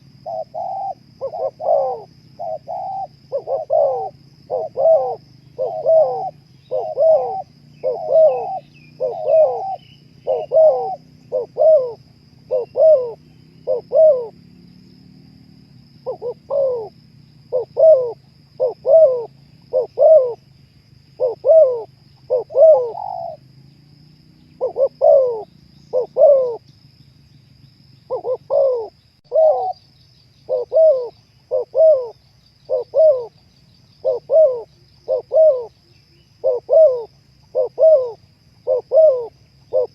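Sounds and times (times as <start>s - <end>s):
dove cooing: 0.0s - 14.4s, 16.0s - 20.4s, 21.1s - 23.5s, 24.4s - 26.6s, 28.1s - 33.4s, 34.0s - 39.9s.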